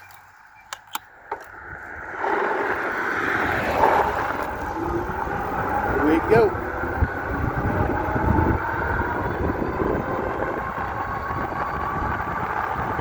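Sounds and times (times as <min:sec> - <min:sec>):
car passing with tyre noise: 0:00.0 - 0:13.0.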